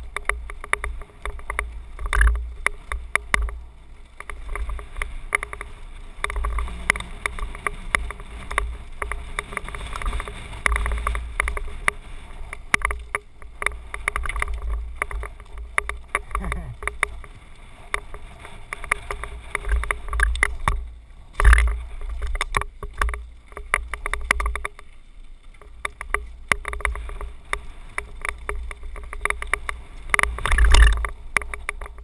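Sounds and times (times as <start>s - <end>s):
bike rattling over stones: 0.0s - 32.0s
wind rumble on microphone: 0.0s - 32.0s.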